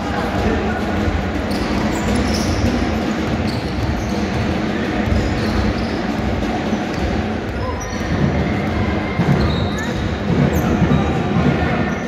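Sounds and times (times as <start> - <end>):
sneaker squeaks: 1.4 - 12.0.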